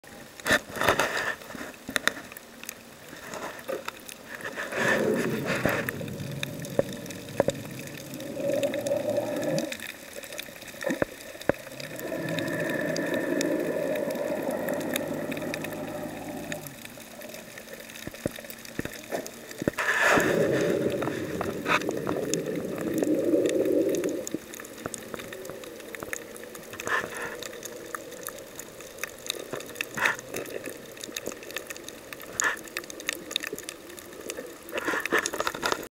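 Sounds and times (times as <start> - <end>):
underwater water rushing: 0.2 - 35.9.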